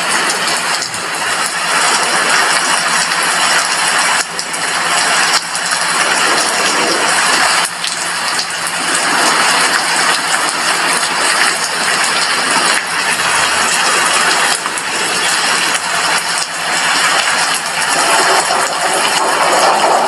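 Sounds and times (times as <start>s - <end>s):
heavy rain on a window: 0.0s - 20.0s.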